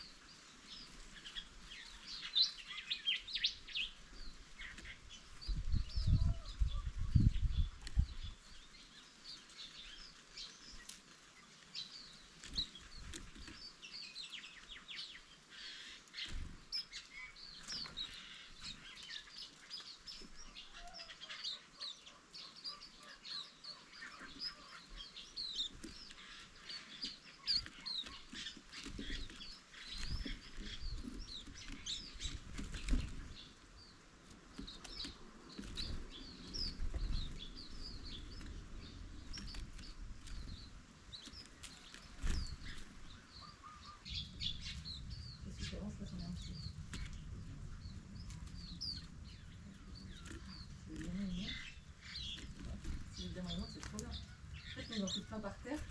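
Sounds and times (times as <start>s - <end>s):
birds twittering: 0.0s - 55.9s.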